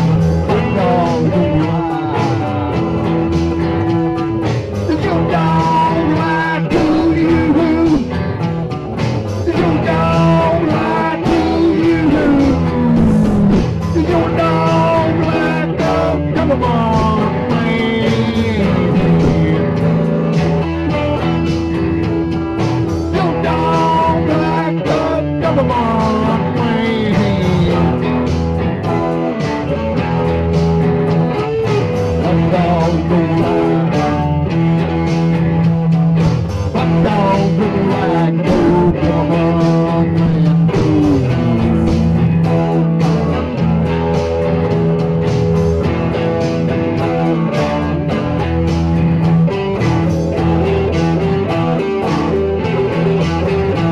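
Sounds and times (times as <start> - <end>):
blues-rock band music: 0.0 - 53.9
lead guitar bending notes: 0.0 - 53.9.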